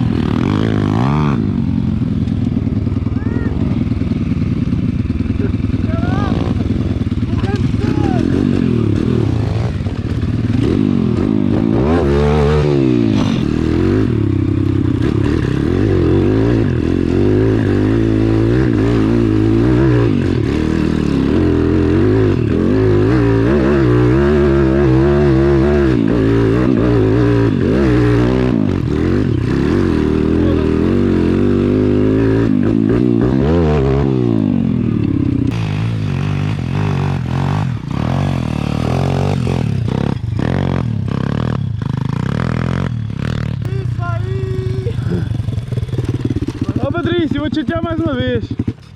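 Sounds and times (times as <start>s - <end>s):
small motorbike engine revving: 0.0s - 48.9s.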